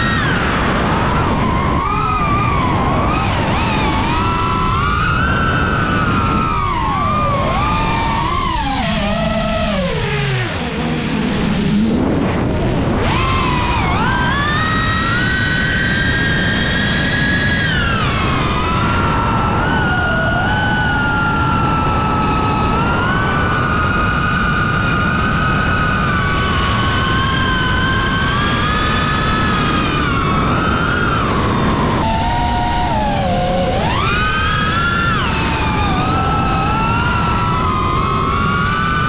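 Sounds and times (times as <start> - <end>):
model jet engine whine: 0.0 - 39.0.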